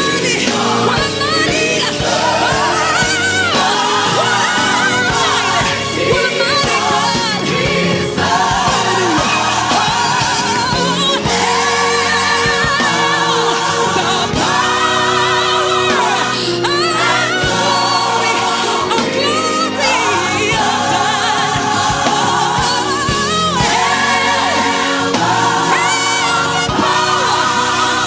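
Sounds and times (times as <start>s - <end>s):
gospel choir singing: 0.0s - 28.0s
instrumental accompaniment: 0.0s - 28.0s.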